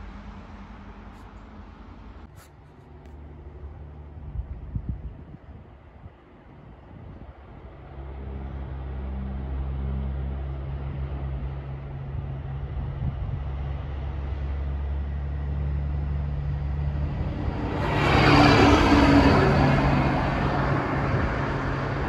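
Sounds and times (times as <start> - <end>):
truck diesel engine drone: 0.0 - 22.0.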